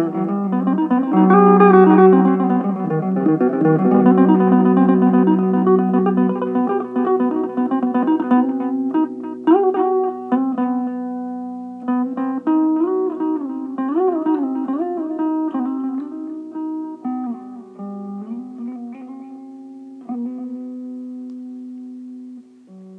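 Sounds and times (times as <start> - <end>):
electric mandolin melody: 0.0 - 22.9.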